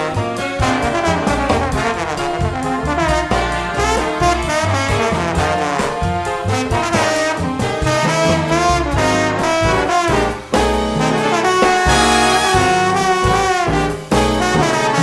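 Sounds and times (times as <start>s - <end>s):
brass music with bass line: 0.0s - 15.0s.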